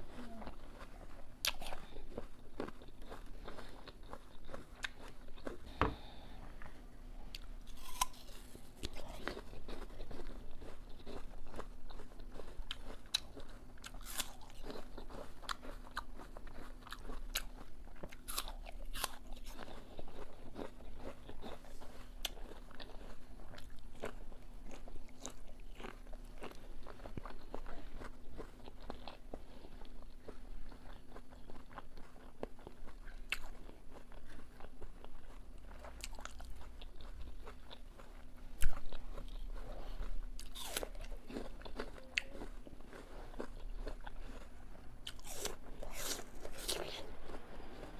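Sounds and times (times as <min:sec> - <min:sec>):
apple crunching and chewing: 0:00.0 - 0:06.2, 0:07.3 - 0:47.9
faint steady hum: 0:00.0 - 0:47.9.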